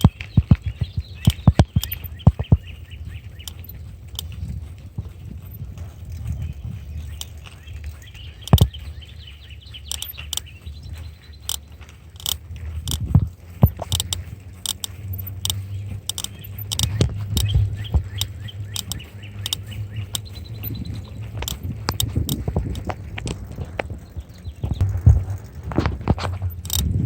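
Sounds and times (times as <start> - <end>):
bicycle rumbling and rattling: 0.0 - 27.0.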